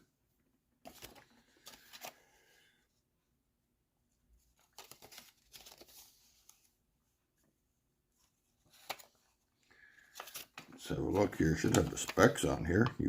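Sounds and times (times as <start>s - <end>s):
faint paper rustling: 0.8s - 2.7s, 4.1s - 13.0s.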